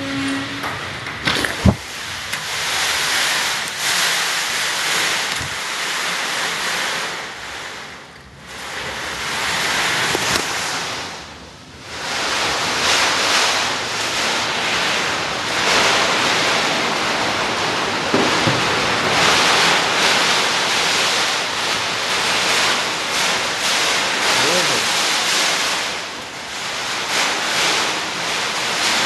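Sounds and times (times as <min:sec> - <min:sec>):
hurricane wind gusting: 0:00.0 - 0:29.0.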